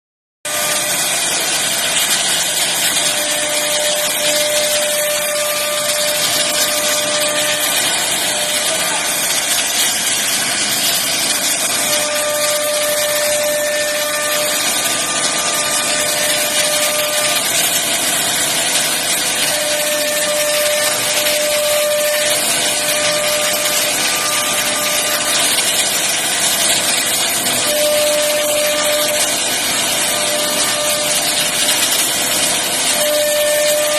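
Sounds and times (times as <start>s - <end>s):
whining tone: 0.5s - 33.9s
wood router hissing cutting: 0.5s - 33.9s.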